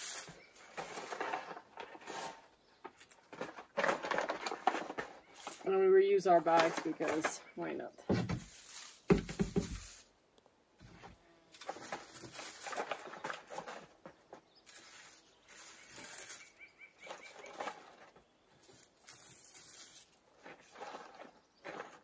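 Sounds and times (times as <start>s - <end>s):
dried leaves rustling: 0.0s - 10.2s, 10.9s - 22.0s.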